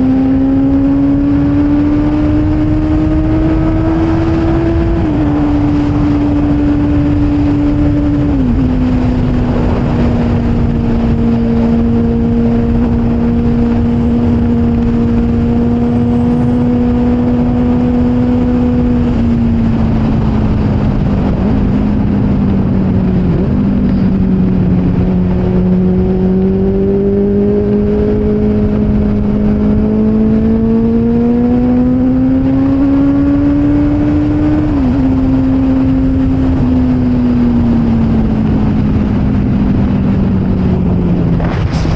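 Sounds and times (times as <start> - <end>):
motorcycle engine: 0.0 - 41.9
wind and road rush: 0.0 - 41.9.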